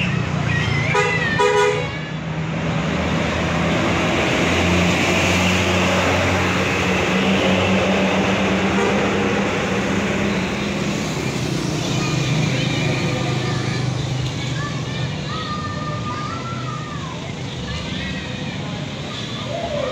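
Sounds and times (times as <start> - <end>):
road noise: 0.0 - 19.9
vehicle engine hum: 0.0 - 19.9.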